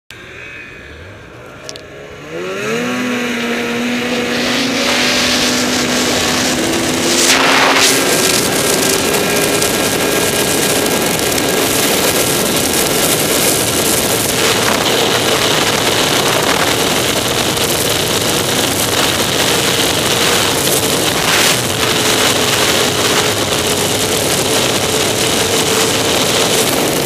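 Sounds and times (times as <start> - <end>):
snowmobile engine accelerating: 0.4 - 27.0
wind rushing over microphone: 1.5 - 27.0.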